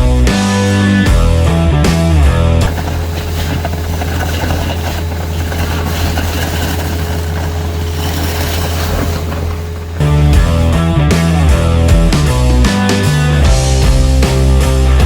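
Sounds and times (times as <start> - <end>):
vacuum truck droning: 2.3 - 15.0.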